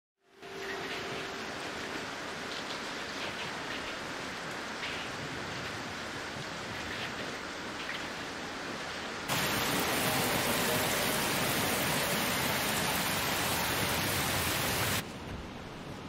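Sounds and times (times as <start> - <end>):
steady rain falling: 0.3 - 16.0.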